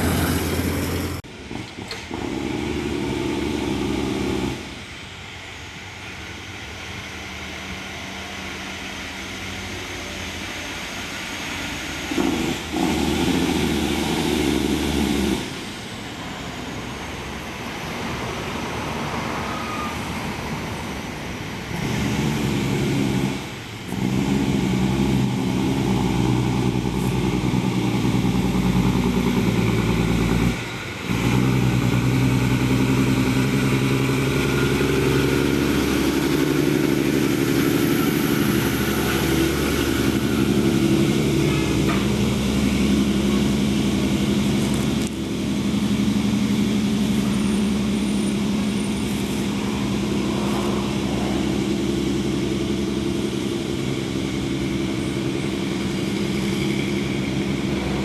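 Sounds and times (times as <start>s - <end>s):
heavy diesel truck engines: 0.0s - 58.0s.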